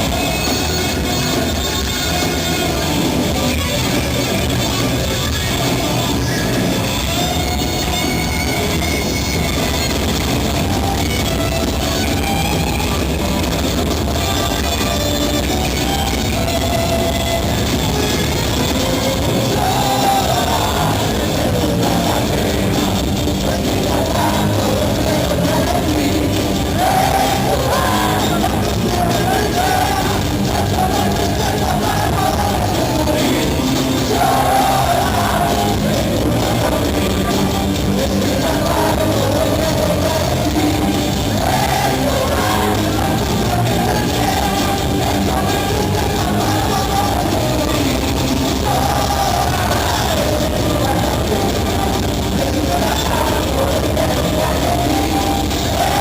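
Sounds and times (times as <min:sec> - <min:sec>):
heavy rock song with singing: 0:00.0 - 0:56.0.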